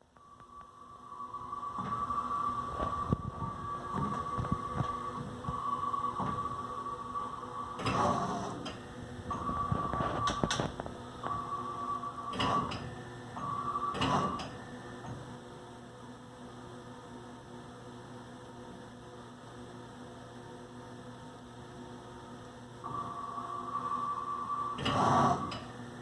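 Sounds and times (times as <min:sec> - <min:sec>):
cnc mill high whine: 0:00.0 - 0:18.4, 0:21.3 - 0:26.0
machine low hum: 0:00.0 - 0:26.0.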